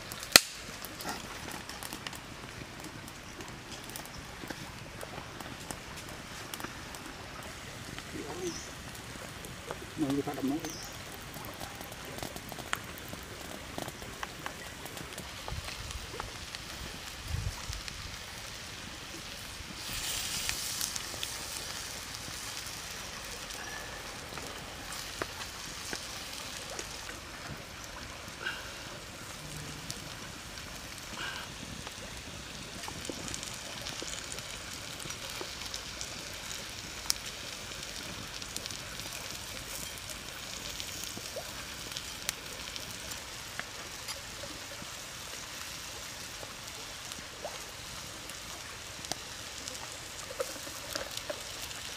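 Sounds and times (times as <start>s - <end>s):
shrimp sizzling on stone: 0.0s - 51.9s
wood fire crackling: 0.0s - 51.9s.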